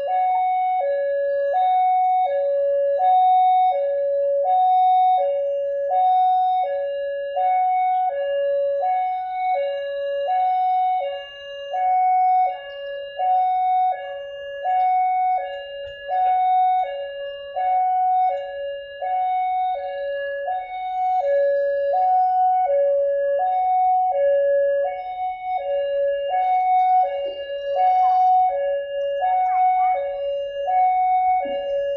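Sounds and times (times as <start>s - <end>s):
level crossing two-tone alarm: 0.0s - 31.9s.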